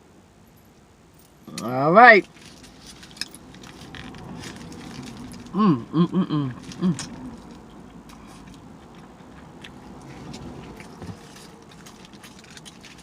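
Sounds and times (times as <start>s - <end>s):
close chewing: 2.3s - 13.0s.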